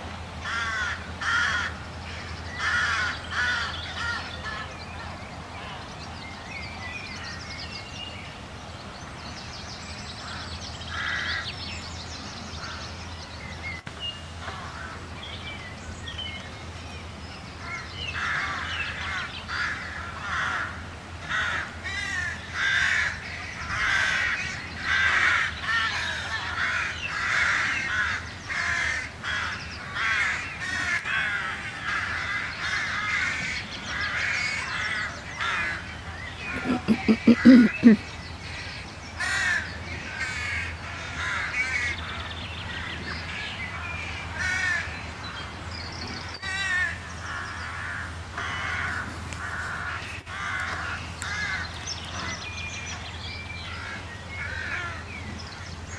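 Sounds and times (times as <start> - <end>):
birds calling: 0.0 - 55.9.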